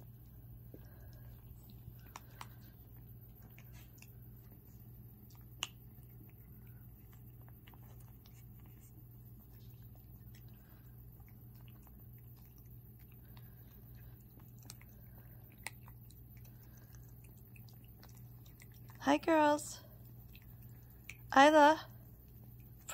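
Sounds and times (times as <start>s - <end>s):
puppies chewing kibble: 0.0s - 22.9s.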